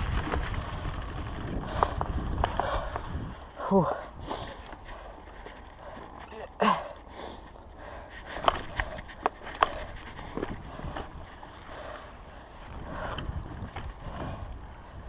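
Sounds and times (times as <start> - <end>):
bike clicking and rattling: 0.0 - 15.0
bike tyres rumbling on dirt: 0.0 - 15.0.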